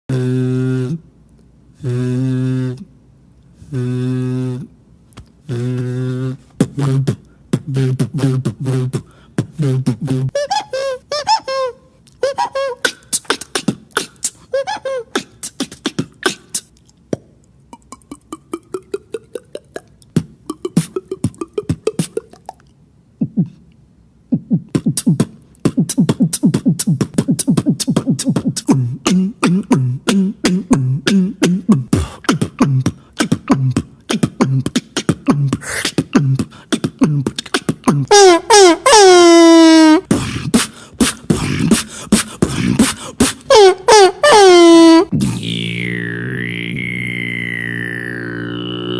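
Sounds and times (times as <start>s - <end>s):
beatboxer making vocal sound effects: 0.1s - 1.1s, 1.8s - 2.9s, 3.6s - 23.7s, 24.3s - 48.9s.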